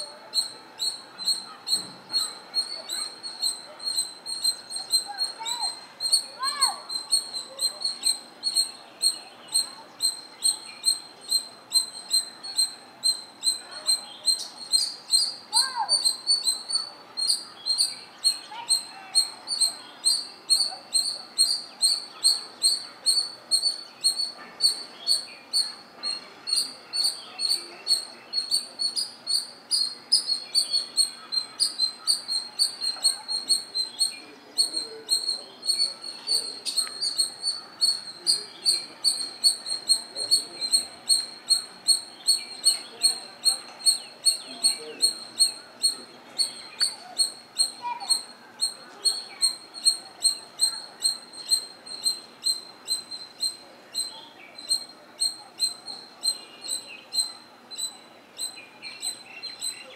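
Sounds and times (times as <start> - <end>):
faint calls: 0.0 - 54.1.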